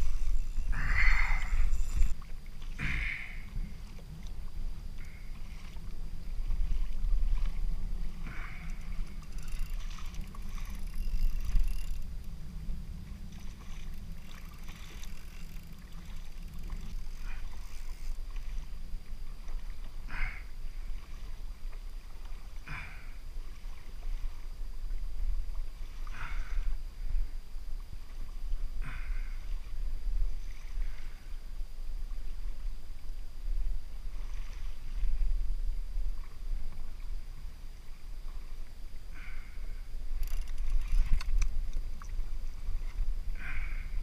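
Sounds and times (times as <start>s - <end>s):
water slapping kayak hull: 0.0s - 44.0s
wind rumble on microphone: 0.0s - 44.0s.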